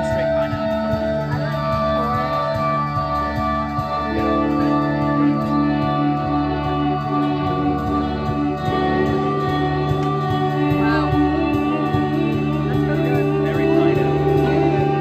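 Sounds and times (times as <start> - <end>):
drum kit beat: 0.0 - 15.0
electric guitar: 0.0 - 15.0
cymbal ticks: 0.1 - 14.6.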